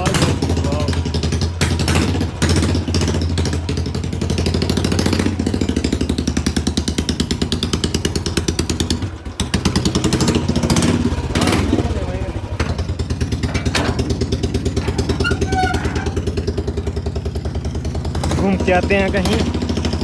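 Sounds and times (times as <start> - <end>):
motorcycle engine exhaust beats: 0.0 - 20.0.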